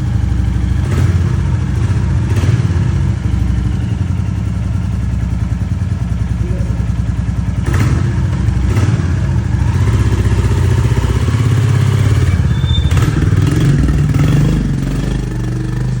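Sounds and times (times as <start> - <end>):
motorcycle engine thumping: 0.2 - 16.0.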